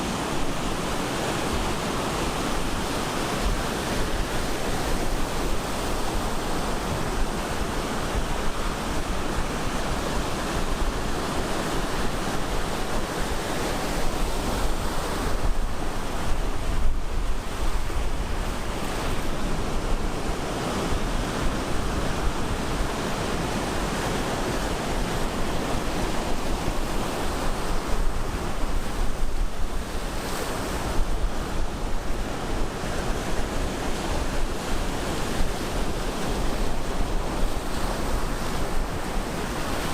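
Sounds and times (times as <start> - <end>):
ocean surf breaking on shore: 0.0 - 39.9.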